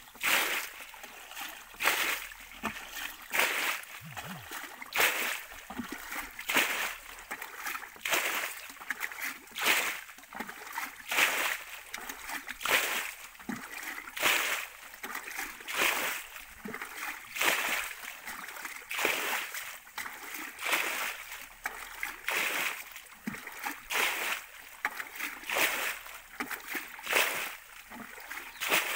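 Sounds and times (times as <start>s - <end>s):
water splashing in pond: 0.0s - 28.9s.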